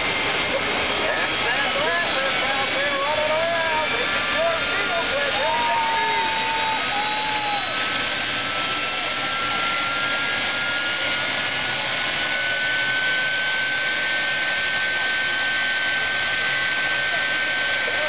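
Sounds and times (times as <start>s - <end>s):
turbine engine whine: 0.0s - 18.0s.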